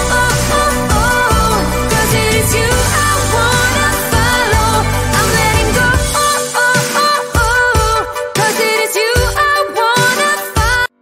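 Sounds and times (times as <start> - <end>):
pop music: 0.0 - 11.0.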